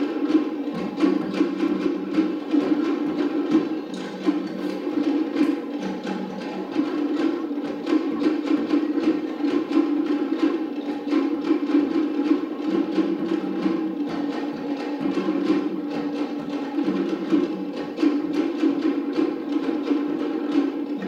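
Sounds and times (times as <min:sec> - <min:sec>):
wooden drums fast beat: 0:00.0 - 0:21.0.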